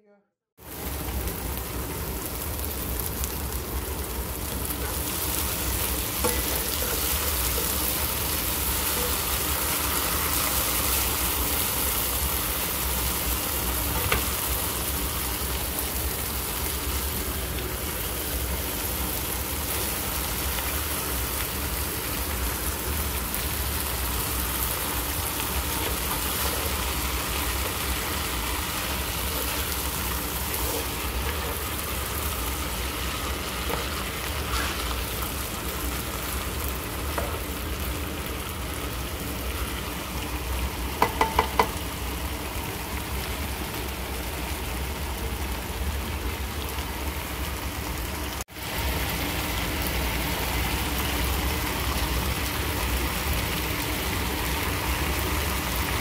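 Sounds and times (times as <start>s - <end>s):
vegetables sizzling in a skillet: 0.6s - 56.0s.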